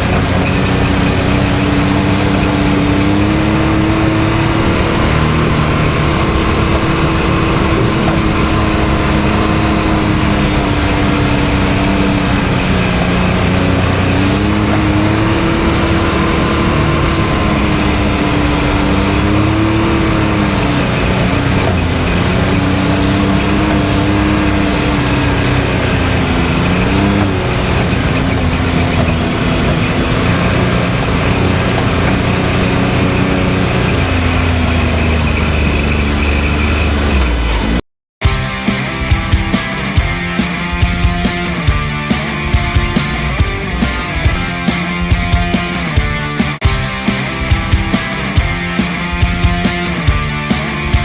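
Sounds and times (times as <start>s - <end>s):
vehicle engine running at steady revs: 0.0s - 51.0s.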